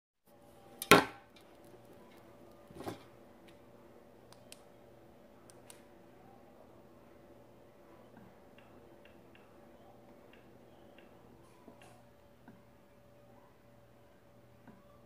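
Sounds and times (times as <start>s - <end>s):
low steady room hum: 0.3s - 15.0s.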